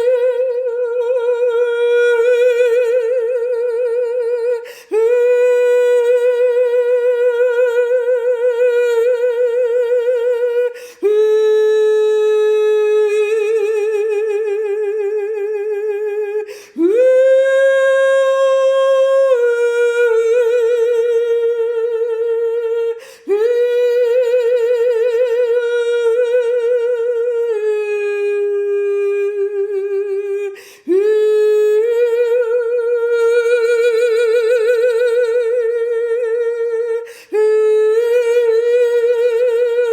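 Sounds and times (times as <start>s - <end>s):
woman singing wordless long notes: 0.0s - 39.9s.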